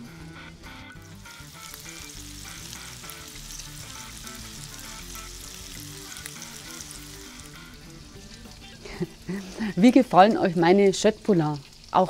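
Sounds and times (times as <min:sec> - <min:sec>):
background music: 0:00.0 - 0:10.5
meatballs sizzling in a pan: 0:00.4 - 0:12.0.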